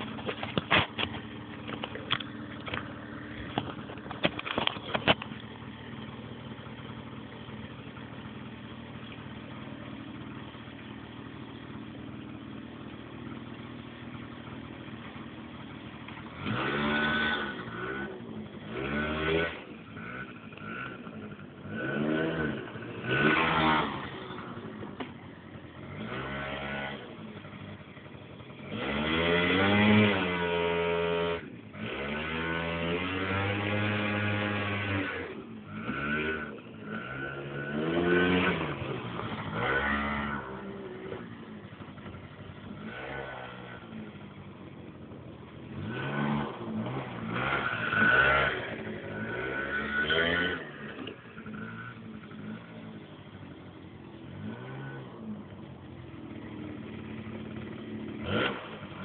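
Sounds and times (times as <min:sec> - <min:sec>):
scooter engine idling and revving: 0:00.0 - 0:59.0.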